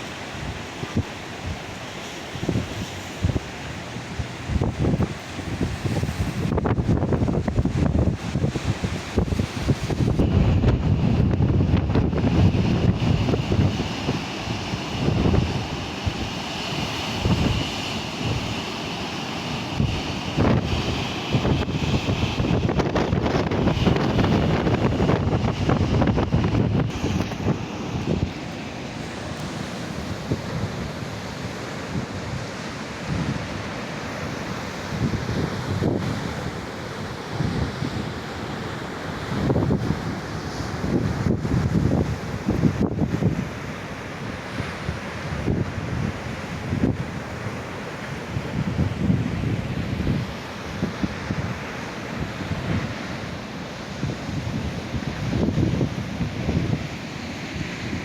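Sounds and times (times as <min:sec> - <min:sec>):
wind buffeting microphone: 0:00.0 - 0:38.4, 0:39.1 - 0:58.0
surf hissing: 0:00.0 - 0:58.0.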